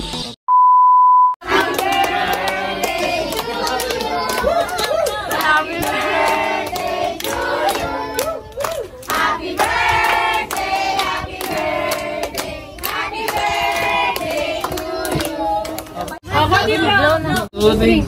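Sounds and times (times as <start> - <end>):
group of people singing: 1.4 - 16.2.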